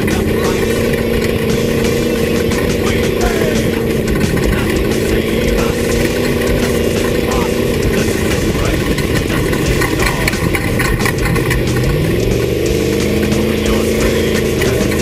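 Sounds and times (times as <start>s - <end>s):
race vehicle engine revving: 0.0s - 15.0s
rattling and knocking: 0.0s - 15.0s.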